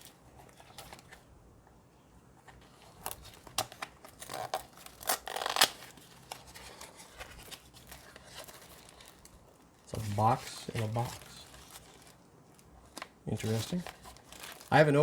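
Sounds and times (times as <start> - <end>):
packaging tearing and crinkling: 2.9 - 15.0.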